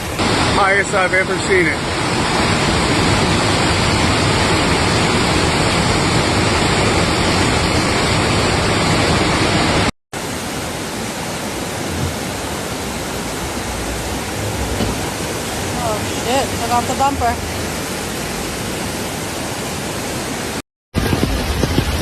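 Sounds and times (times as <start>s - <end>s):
flood water rushing: 0.0s - 22.0s
rain: 0.0s - 22.0s.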